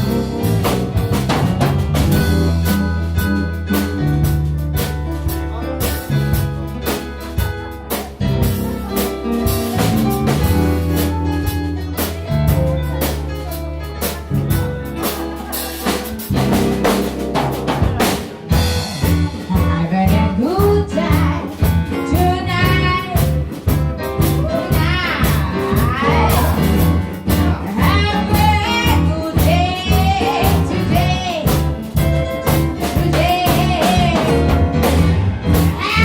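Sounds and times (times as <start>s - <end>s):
band playing upbeat song: 0.0s - 36.0s
bass line: 0.0s - 36.0s
drum kit beat: 0.0s - 36.0s.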